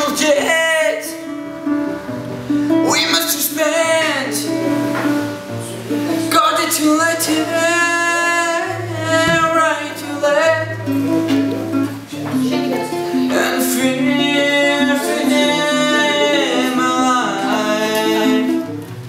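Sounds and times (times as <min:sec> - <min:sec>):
man singing: 0:00.0 - 0:01.5, 0:02.8 - 0:04.8, 0:05.8 - 0:11.2, 0:12.2 - 0:18.8
classical guitar plucked: 0:00.0 - 0:19.0.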